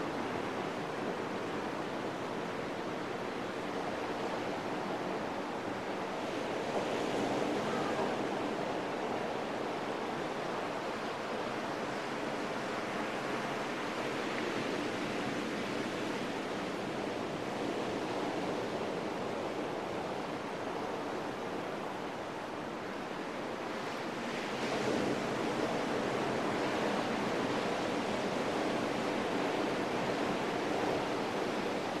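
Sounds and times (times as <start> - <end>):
waves breaking on beach: 0.0 - 32.0.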